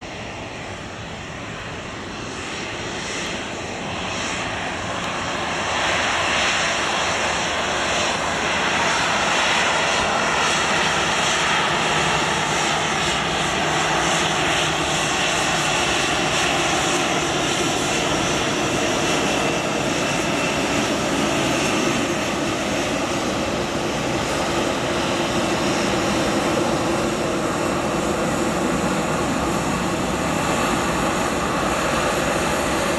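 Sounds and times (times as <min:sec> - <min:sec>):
jet engines whining and roaring: 0:00.0 - 0:32.9.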